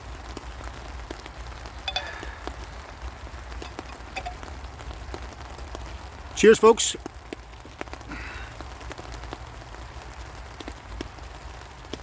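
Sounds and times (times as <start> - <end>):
drops ticking on tarpaulin: 0.0 - 12.0
rain on a tarpaulin: 0.0 - 12.0.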